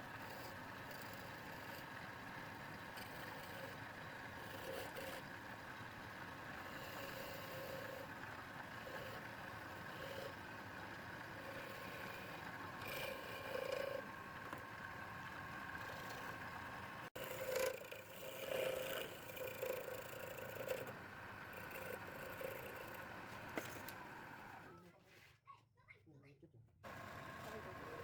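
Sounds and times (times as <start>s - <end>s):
turning tool scraping wood: 0.0s - 5.8s, 6.4s - 24.6s
wood lathe whining: 0.0s - 24.7s, 26.9s - 28.0s.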